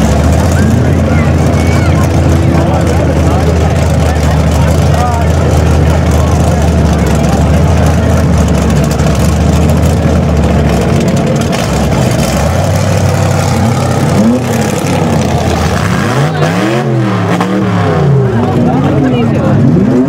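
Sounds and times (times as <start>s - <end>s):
tyres spinning on dirt: 0.0s - 16.8s
engine revving hard: 0.0s - 20.0s.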